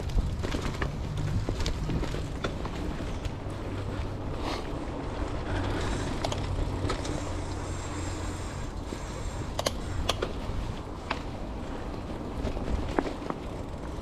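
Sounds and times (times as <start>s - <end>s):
bicycle tyres rolling on dirt: 0.0s - 14.0s
bike clicks and rattles: 0.0s - 14.0s
wind noise: 0.0s - 14.0s.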